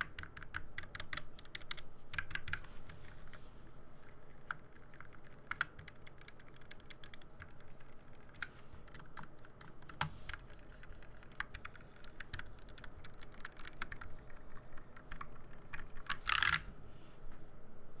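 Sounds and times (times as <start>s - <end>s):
mechanical keyboard typing: 0.0s - 3.4s, 4.0s - 16.7s.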